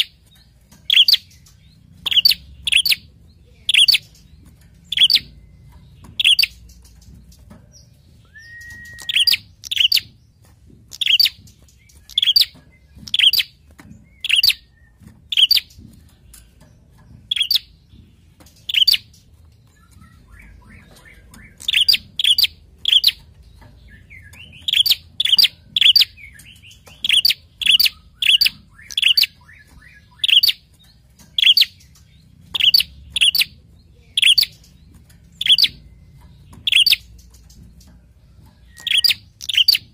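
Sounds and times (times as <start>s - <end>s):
bird chip calls: 0.0s - 7.1s, 7.8s - 10.2s, 10.9s - 15.8s, 17.2s - 18.0s, 18.6s - 37.8s, 38.6s - 39.9s.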